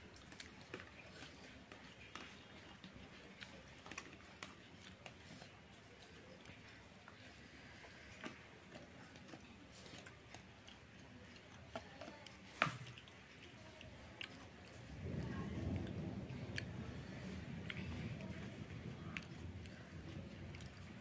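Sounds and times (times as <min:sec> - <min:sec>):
person chewing: 0:00.0 - 0:16.7, 0:17.6 - 0:21.0.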